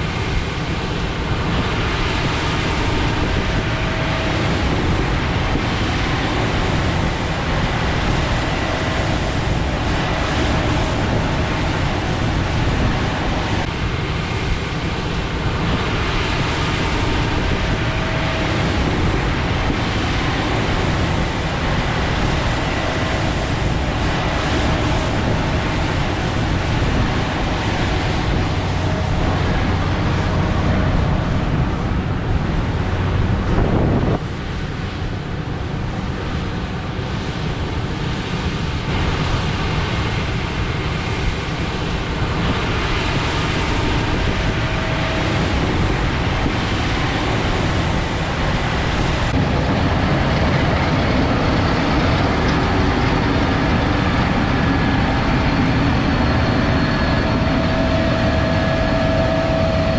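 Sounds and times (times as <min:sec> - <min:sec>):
diesel machinery rumbling: 0:00.0 - 0:37.1, 0:41.8 - 0:59.9.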